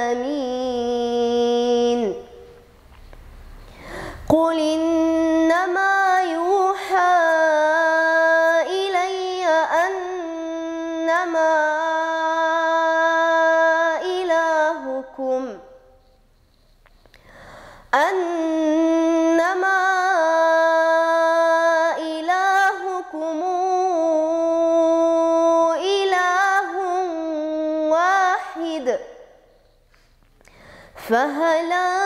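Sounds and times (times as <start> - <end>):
girl reciting melodically: 0.0 - 16.1, 17.2 - 29.7, 30.5 - 32.0.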